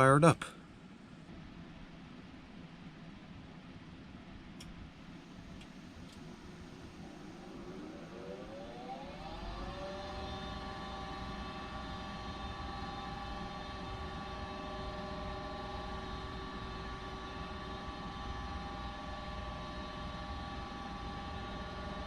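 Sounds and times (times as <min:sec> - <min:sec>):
furnace motor whine and hum: 0:00.8 - 0:22.0.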